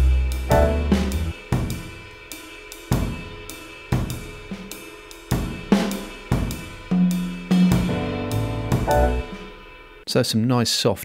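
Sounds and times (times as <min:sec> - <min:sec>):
jazz drum kit playing: 0:00.0 - 0:10.0.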